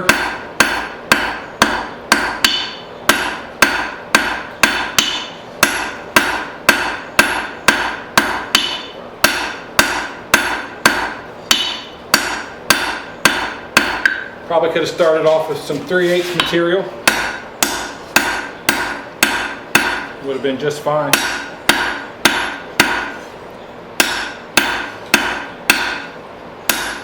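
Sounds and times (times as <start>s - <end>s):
hammer striking steel on anvil: 0.0s - 14.4s, 16.4s - 20.2s, 21.0s - 23.2s, 24.0s - 27.0s.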